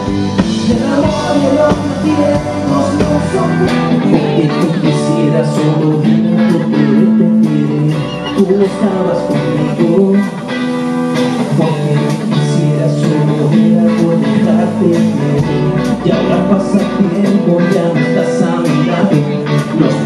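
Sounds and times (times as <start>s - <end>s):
drums: 0.0s - 20.0s
guitar: 0.0s - 20.0s
man singing into a microphone: 0.0s - 20.0s.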